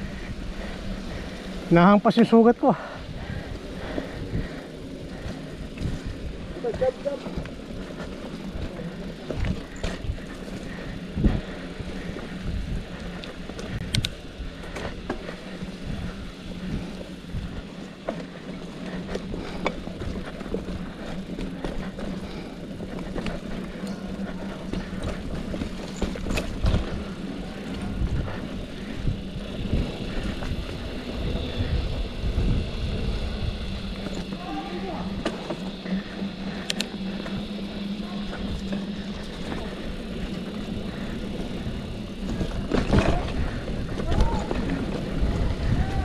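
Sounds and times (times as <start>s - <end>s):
bike rolling over dirt trail: 0.0s - 46.0s
low hum: 2.8s - 46.0s.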